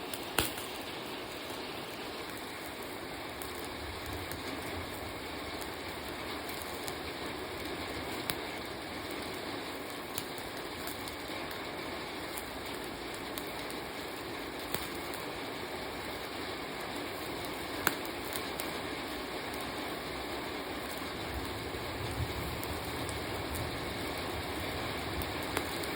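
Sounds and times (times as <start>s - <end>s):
meat sizzling on grill: 0.0s - 25.9s
wood fire crackling pops: 0.0s - 25.9s.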